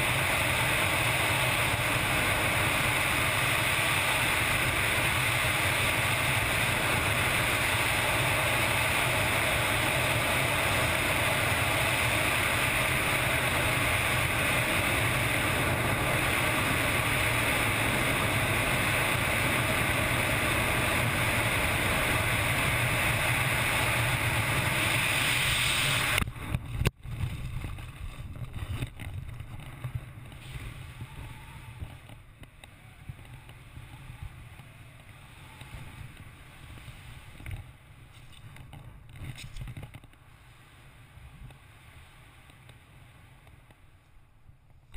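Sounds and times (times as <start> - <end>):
loud wind rush: 0.0 - 38.1
gusty wind: 0.0 - 44.9.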